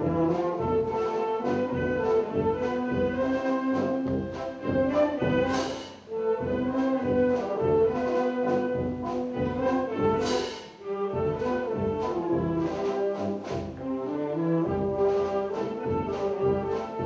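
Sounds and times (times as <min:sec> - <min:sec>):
brass and woodwind chords: 0:00.0 - 0:17.0
percussion beats: 0:00.0 - 0:17.0.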